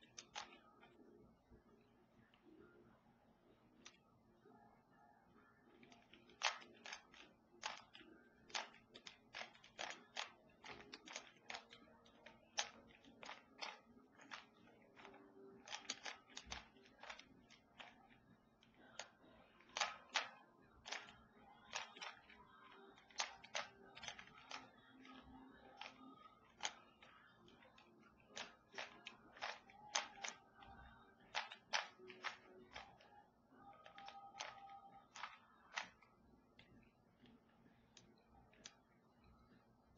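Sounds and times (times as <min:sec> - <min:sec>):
puzzle cube layers clicking: 0:00.0 - 0:01.0, 0:05.7 - 0:39.4.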